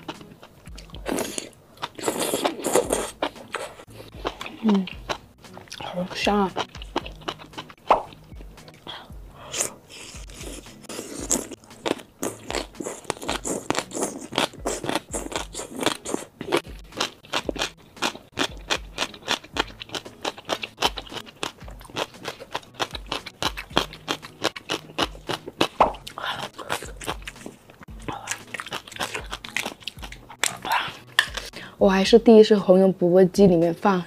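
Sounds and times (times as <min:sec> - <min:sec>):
crunchy chewing: 0:00.0 - 0:05.9, 0:06.5 - 0:31.5.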